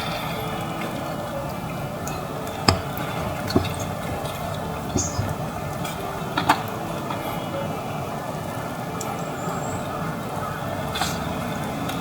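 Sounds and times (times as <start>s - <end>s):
steady watery background: 0.0s - 12.0s.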